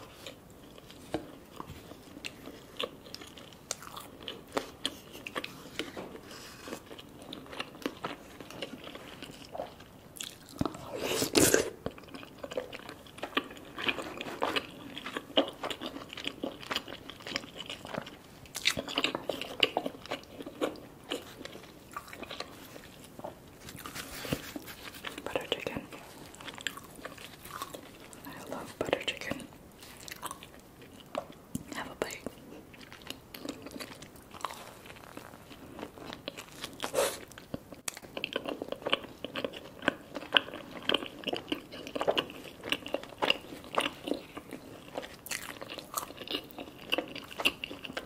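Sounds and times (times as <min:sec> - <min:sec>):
wet chewing and smacking: 0:00.0 - 0:10.9, 0:11.7 - 0:48.0.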